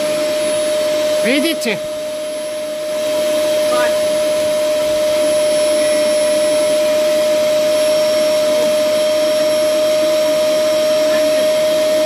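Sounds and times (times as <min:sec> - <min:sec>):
vacuum cleaner whine: 0:00.0 - 0:12.0.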